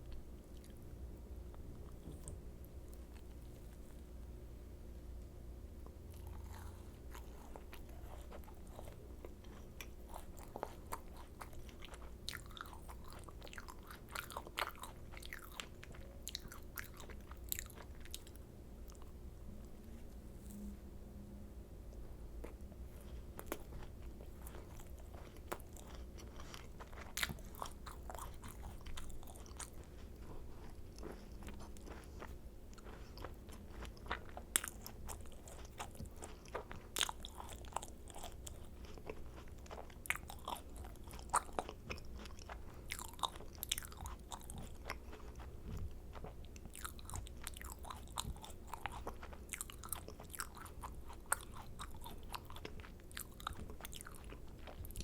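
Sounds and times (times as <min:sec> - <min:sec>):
soft chewing: 0:00.0 - 0:04.4, 0:05.2 - 0:20.8, 0:21.9 - 0:55.0
faint low hum: 0:00.0 - 0:55.0.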